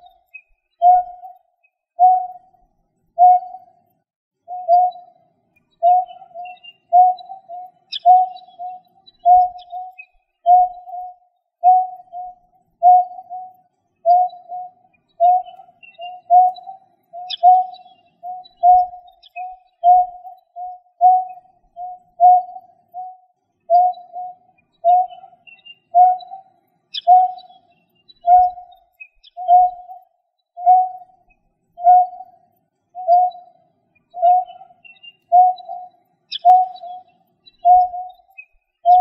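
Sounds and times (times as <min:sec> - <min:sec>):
faint high chirps: 0:00.0 - 0:39.0.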